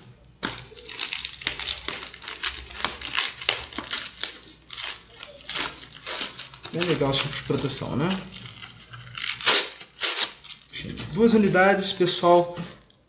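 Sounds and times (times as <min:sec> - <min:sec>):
foam packing wrap crinkling: 0:00.0 - 0:13.0.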